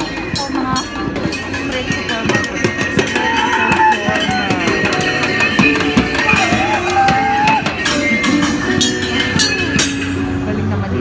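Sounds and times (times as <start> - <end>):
drumming on pots and buckets: 0.0 - 11.0
melody over the beat: 0.0 - 11.0.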